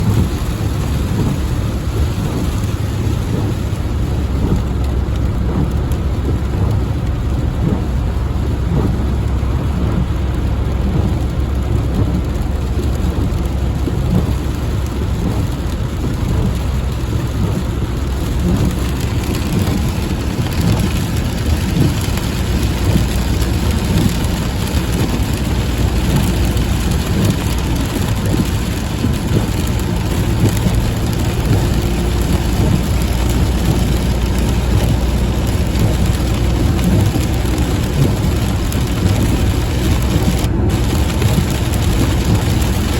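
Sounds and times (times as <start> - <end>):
heavy rain: 0.0 - 42.9
low rumble of thunder: 0.0 - 42.9.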